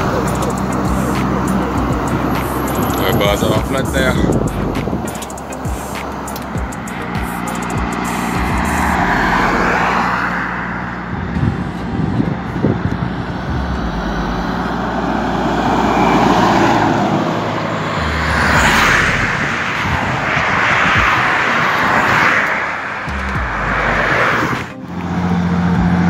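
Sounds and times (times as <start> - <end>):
highway traffic passing: 0.0 - 26.0
truck diesel engine passing: 0.0 - 26.0.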